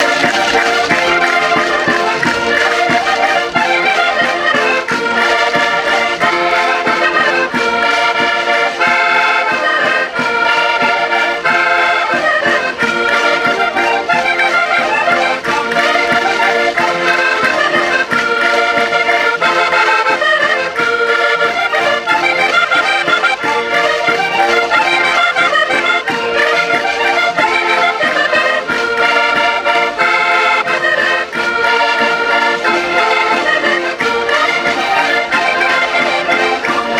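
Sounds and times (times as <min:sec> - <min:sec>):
concertinas playing folk dance tune: 0:00.0 - 0:36.9.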